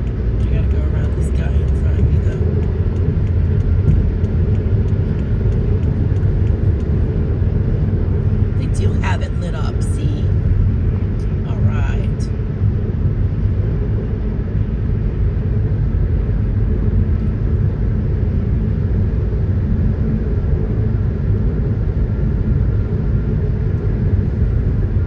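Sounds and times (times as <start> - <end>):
road rumble and engine in cabin: 0.0 - 25.0.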